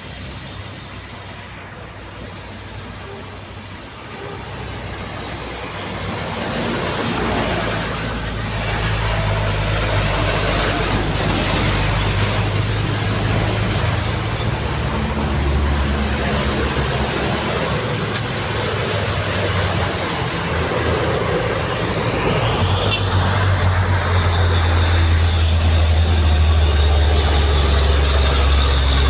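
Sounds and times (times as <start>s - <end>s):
diesel truck engine under load: 0.0s - 29.0s
tyre and road noise: 0.0s - 29.0s.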